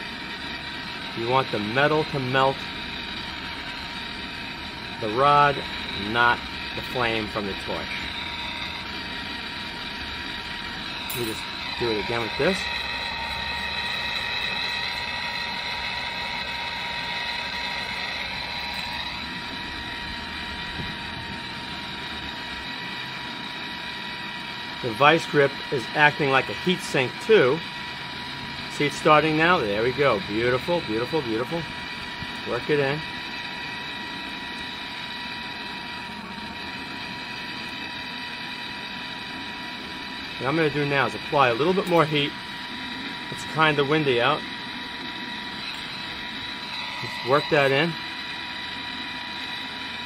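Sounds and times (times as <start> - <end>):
gas torch hissing: 0.0 - 50.0.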